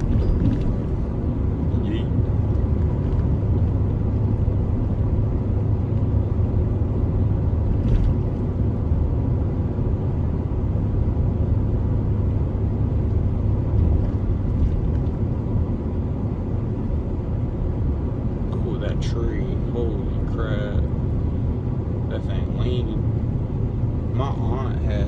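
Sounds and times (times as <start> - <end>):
road noise: 0.0 - 25.0
truck engine rumble: 0.0 - 25.0.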